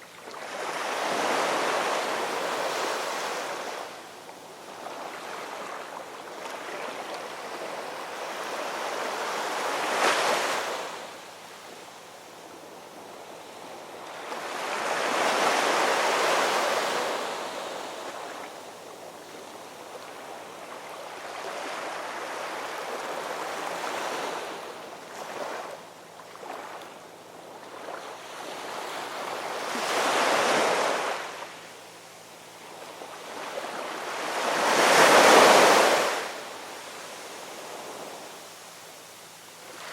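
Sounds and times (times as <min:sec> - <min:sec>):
ocean waves breaking on shore: 0:00.0 - 0:11.8, 0:12.5 - 0:31.6, 0:32.6 - 0:39.9.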